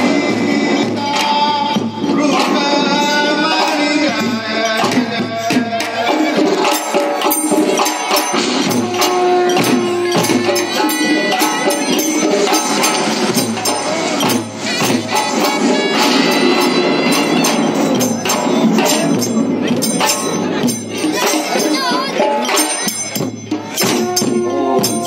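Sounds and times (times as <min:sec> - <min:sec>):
loud music with busy percussion: 0:00.0 - 0:25.0.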